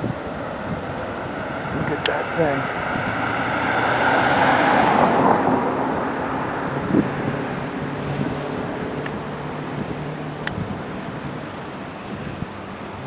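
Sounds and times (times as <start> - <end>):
passing vehicle engine: 0.0 - 13.0.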